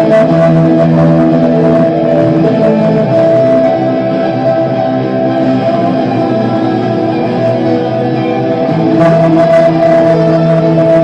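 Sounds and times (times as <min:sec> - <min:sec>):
electric guitar chords: 0:00.0 - 0:11.0.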